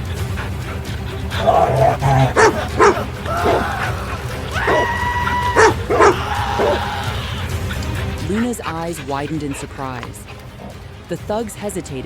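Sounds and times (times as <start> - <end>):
large dog barking: 0.0 - 11.0
background music: 0.0 - 12.0.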